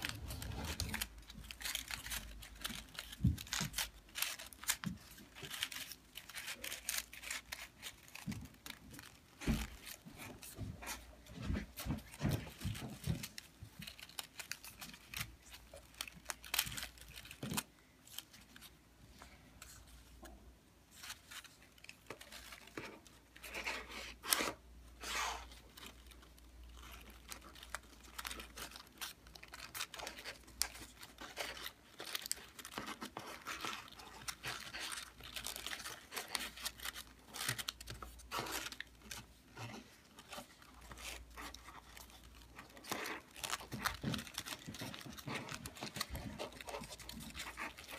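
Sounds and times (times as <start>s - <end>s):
paper rustling and crinkling: 0.0s - 47.9s.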